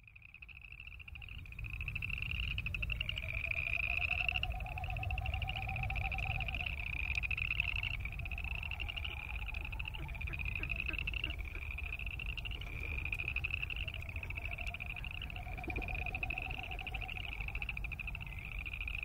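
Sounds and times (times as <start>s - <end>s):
frogs trilling: 0.0s - 19.0s.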